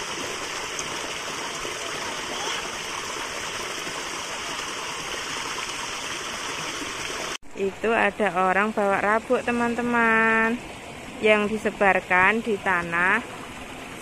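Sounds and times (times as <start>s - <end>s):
water flowing along concrete channel: 0.0s - 14.0s.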